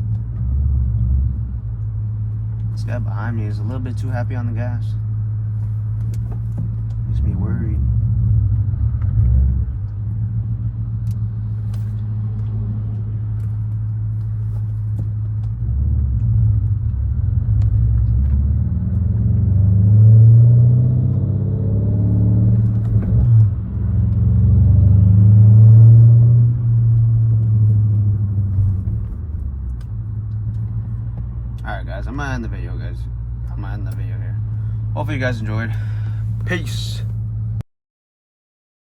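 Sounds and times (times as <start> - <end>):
car engine droning while driving: 0.0 - 37.6.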